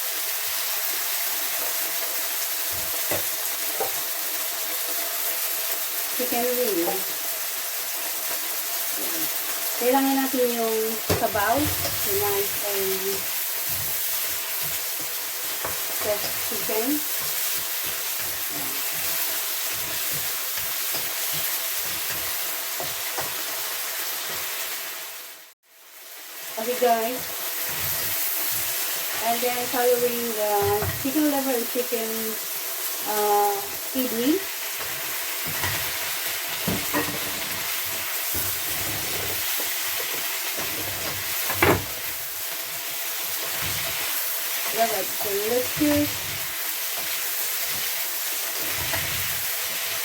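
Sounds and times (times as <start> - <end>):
chicken sizzling in a pan: 0.0 - 50.0.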